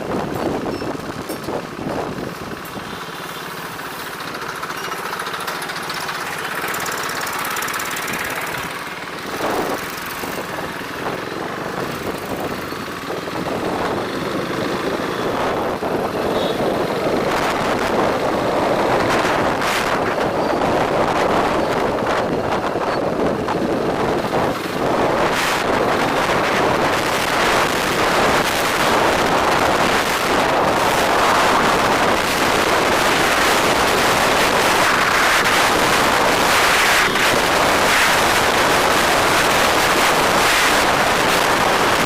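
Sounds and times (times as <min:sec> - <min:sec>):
motorbike engine: 0:00.0 - 0:42.0
traffic: 0:00.0 - 0:42.0.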